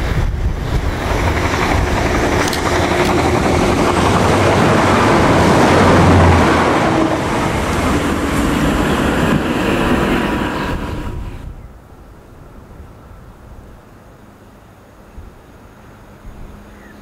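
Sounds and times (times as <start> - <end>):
diesel train passing: 0.0 - 16.9.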